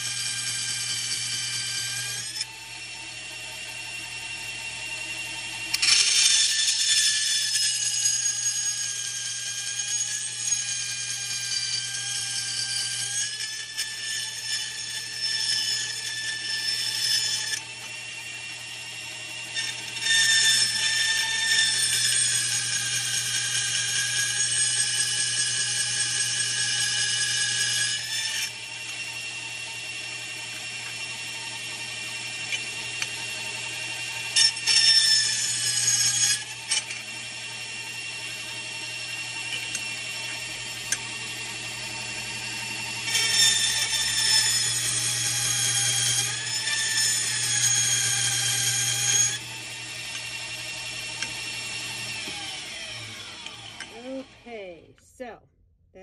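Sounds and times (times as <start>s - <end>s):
blade cutting into metal: 0.0s - 2.6s, 5.2s - 54.7s
bandsaw whining: 0.0s - 55.4s.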